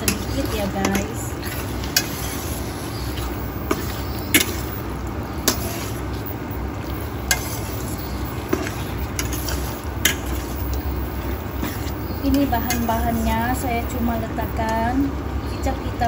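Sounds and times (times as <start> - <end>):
chicken simmering: 0.0 - 15.7.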